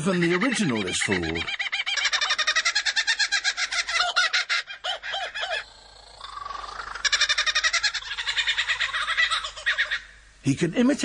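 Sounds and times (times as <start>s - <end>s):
lyrebird mimicking bird calls: 0.0s - 10.2s.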